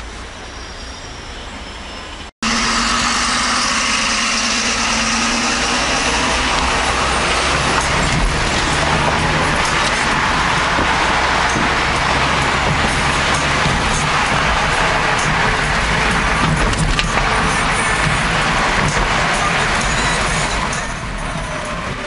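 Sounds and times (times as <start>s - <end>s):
engine and road noise: 0.0s - 22.0s
car cabin and engine noise: 1.4s - 22.0s.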